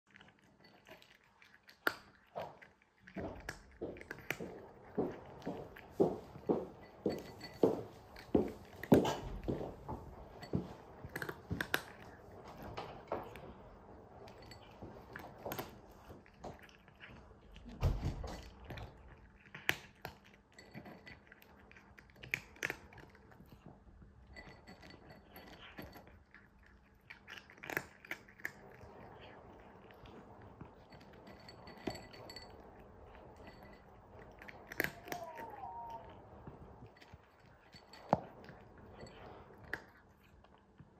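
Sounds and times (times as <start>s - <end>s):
cat crunching dry kibble: 0.1s - 40.9s.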